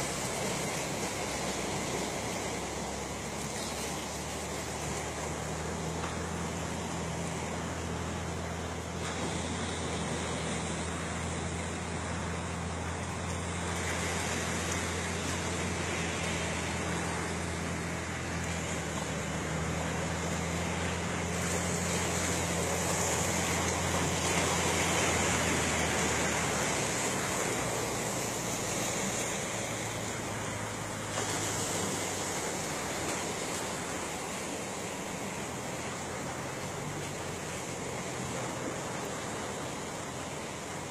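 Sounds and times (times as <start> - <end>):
low engine hum: 0.0 - 40.9
sea wash: 0.0 - 40.9
wind: 0.0 - 40.9.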